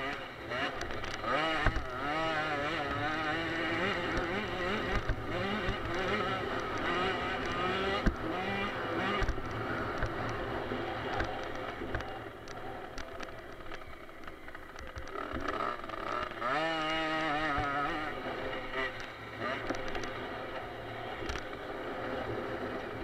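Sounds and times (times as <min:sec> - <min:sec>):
small dirt bike engine revving: 0:00.0 - 0:23.0.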